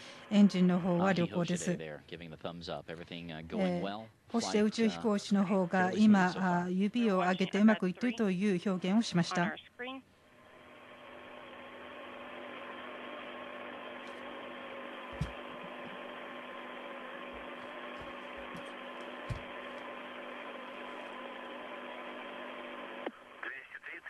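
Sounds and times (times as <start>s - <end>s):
radio hiss and hum: 0.0s - 24.0s.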